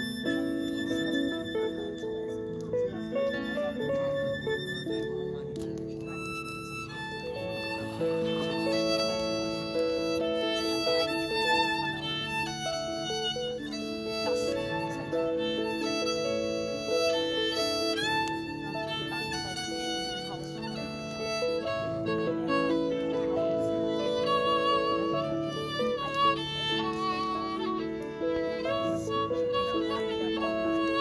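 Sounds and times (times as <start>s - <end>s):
fiddle melody: 0.0s - 31.0s.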